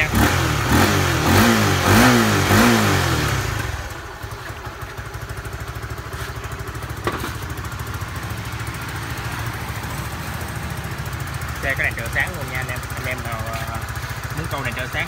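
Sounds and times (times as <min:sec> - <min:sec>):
motorcycle engine idling: 0:00.0 - 0:15.0
motorcycle engine revving: 0:00.0 - 0:15.0.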